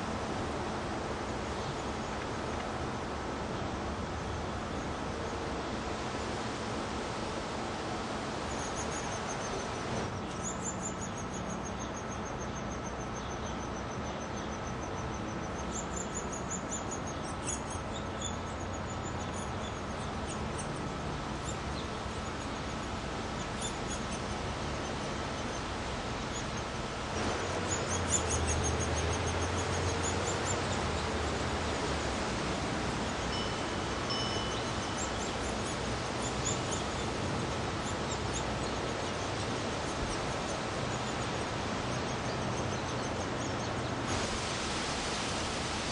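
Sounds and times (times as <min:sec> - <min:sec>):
steady background hiss: 0:00.0 - 0:45.9.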